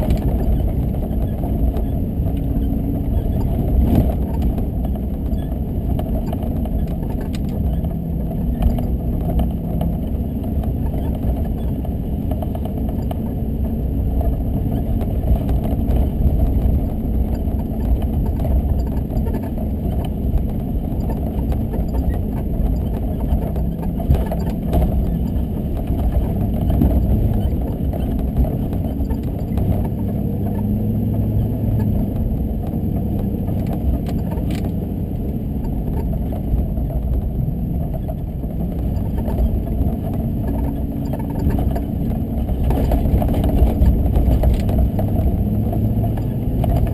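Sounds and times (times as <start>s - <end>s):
car engine rumble: 0.0s - 46.9s
road noise: 0.0s - 46.9s.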